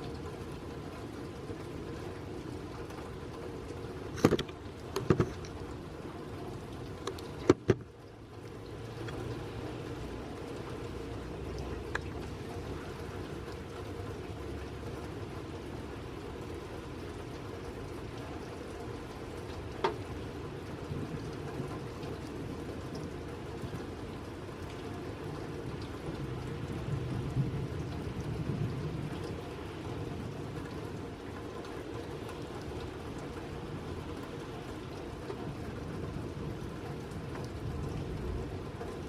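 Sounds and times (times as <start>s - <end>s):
light rain falling: 0.0s - 39.0s.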